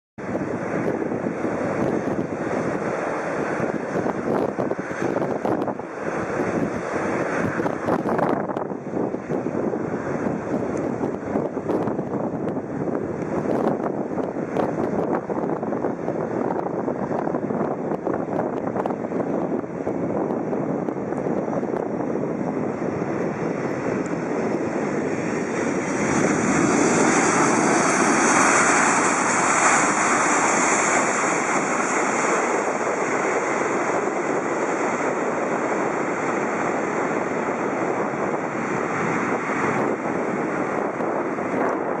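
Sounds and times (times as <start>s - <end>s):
jet engine roar: 0.2s - 42.0s.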